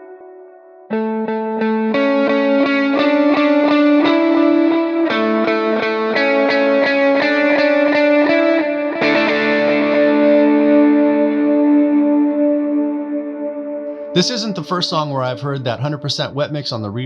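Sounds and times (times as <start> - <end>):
electric guitar picking notes: 0.0 - 17.0.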